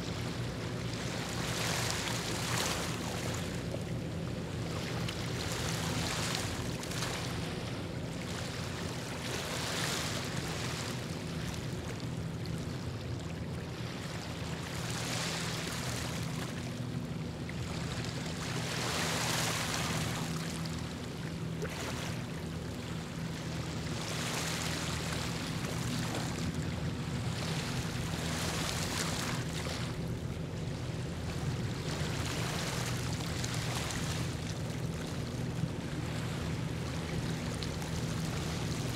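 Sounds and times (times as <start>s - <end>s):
steady low hum: 0.0s - 38.9s
water washing in swells: 0.0s - 38.9s.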